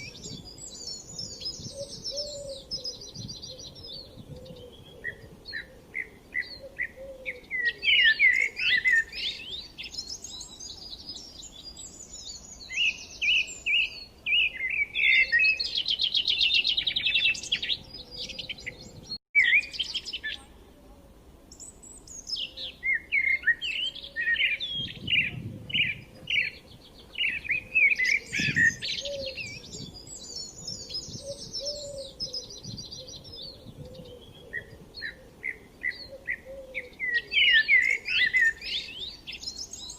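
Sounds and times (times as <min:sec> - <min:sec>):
small birds chirping and trilling: 0:00.0 - 0:20.7, 0:21.5 - 0:39.9.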